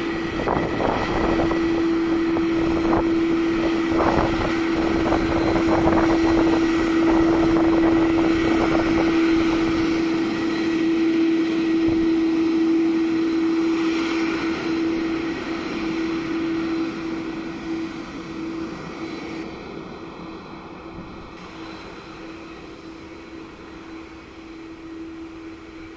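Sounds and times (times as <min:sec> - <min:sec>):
jet engines at takeoff thrust: 0:00.0 - 0:25.9.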